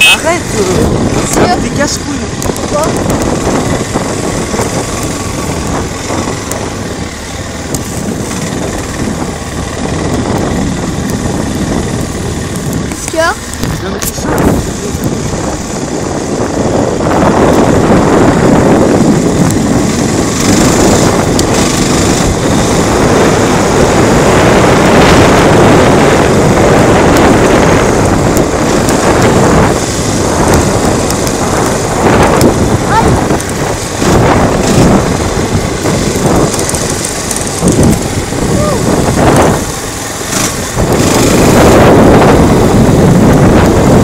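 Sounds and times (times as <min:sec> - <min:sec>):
quad bike engine running: 0:00.0 - 0:44.0
wind buffeting microphone: 0:00.0 - 0:44.0.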